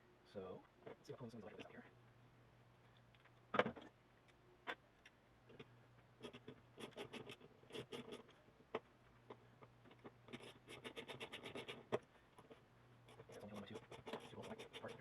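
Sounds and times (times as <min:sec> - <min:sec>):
small parts clicking and scratching: 0:02.9 - 0:15.0.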